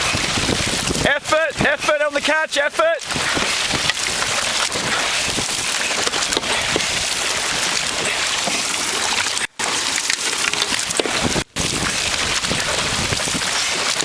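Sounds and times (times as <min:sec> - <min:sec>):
water splashing along hull: 0:00.0 - 0:14.0.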